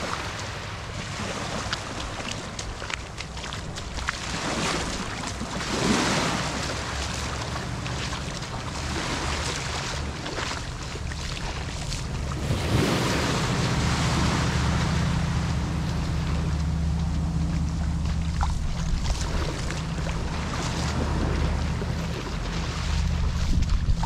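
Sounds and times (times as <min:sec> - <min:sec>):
small waves breaking on sand: 0:00.0 - 0:24.0
low hum: 0:01.8 - 0:24.0.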